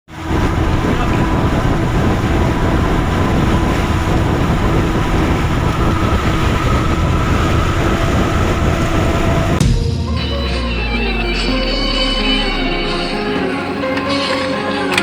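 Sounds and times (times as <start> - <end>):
boat engine rumbling: 0.1 - 15.0.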